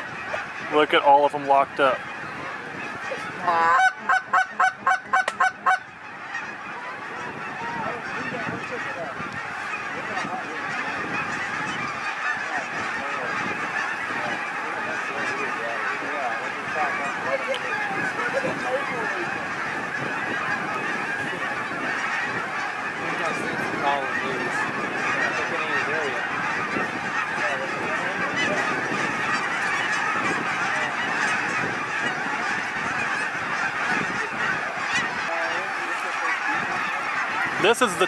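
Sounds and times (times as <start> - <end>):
flock of geese calling: 0.0 - 38.0.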